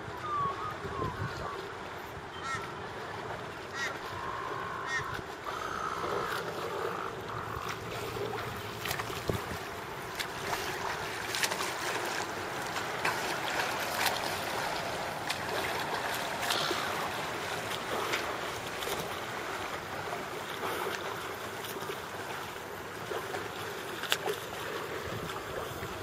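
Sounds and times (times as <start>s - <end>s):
water lapping: 0.0s - 26.0s
wind: 0.0s - 26.0s
small splashes: 2.4s - 26.0s.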